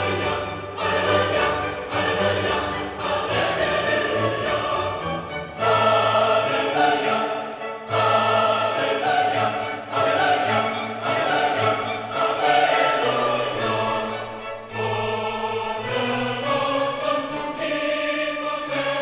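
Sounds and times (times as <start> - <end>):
dramatic orchestral and choral music: 0.0 - 19.0.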